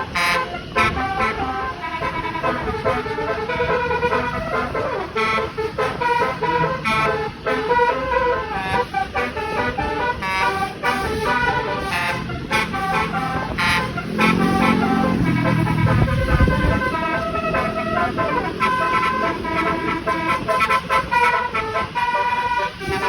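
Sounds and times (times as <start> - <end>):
musical bus horn playing a tune: 0.0 - 23.0.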